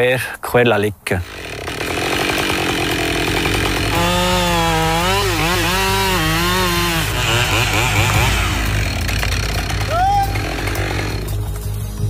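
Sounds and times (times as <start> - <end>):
chainsaw cutting into tree trunk: 1.2 - 11.6.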